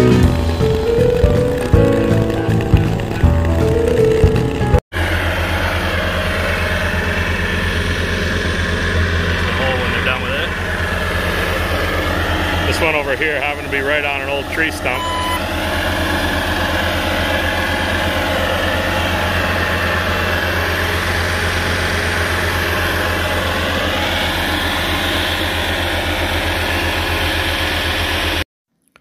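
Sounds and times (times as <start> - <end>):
diesel engine running: 0.0 - 28.4.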